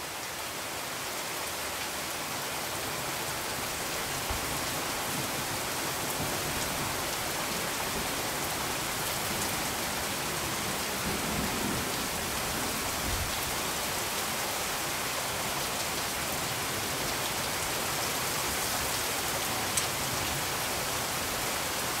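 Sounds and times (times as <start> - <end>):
steady rain-like hiss: 0.0 - 22.0.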